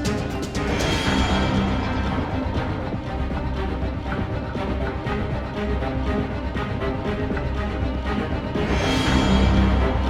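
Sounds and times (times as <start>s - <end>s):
soundtrack music with heavy bass: 0.0s - 10.0s.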